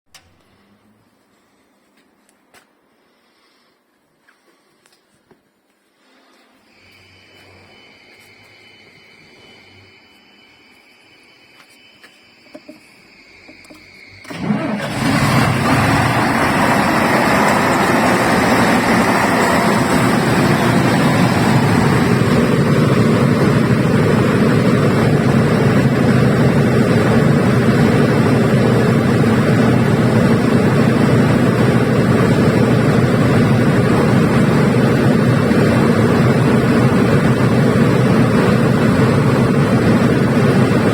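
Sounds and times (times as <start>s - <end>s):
diesel generator starting and running: 6.7s - 40.9s.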